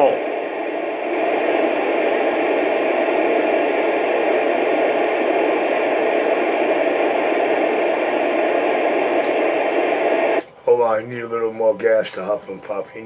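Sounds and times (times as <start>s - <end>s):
static hiss: 0.0s - 10.9s.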